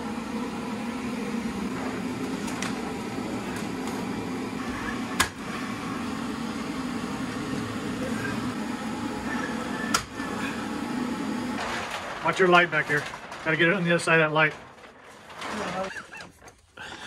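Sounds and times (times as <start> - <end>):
steady low hum: 0.0 - 15.5.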